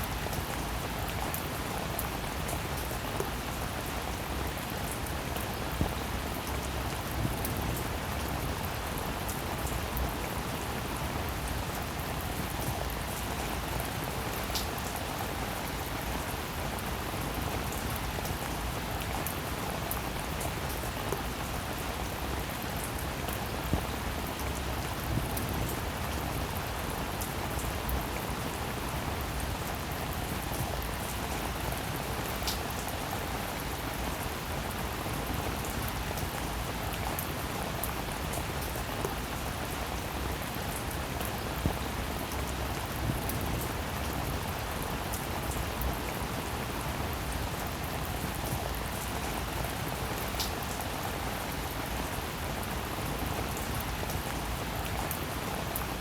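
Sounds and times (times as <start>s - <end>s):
rainfall: 0.0s - 56.0s.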